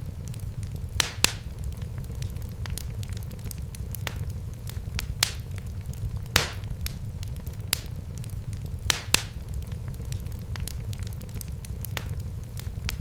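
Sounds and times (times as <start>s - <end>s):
flames rumbling: 0.0s - 13.0s
wood fire popping and snapping: 0.0s - 13.0s.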